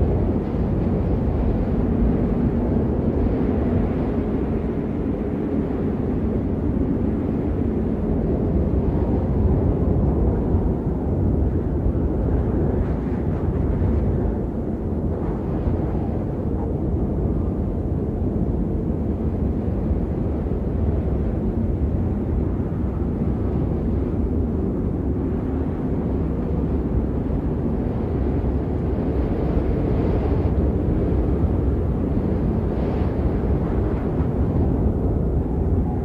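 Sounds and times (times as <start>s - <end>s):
strong wind rushing: 0.0s - 36.0s
wind buffeting microphone: 0.0s - 36.0s.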